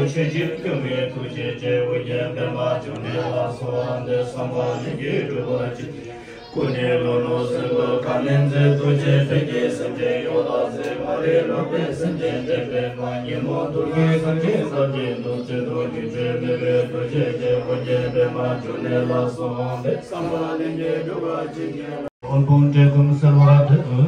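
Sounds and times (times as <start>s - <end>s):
chanted vocals: 0.0s - 24.0s.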